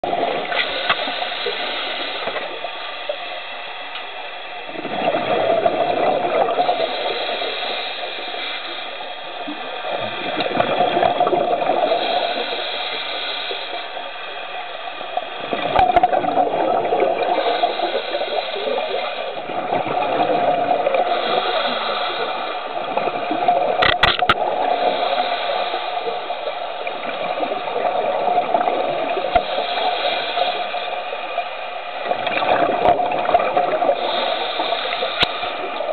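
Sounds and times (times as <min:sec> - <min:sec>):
muffled exhaled bubbles underwater: 0:00.0 - 0:03.3, 0:04.6 - 0:14.4, 0:15.0 - 0:35.9
steady hiss: 0:00.0 - 0:35.9.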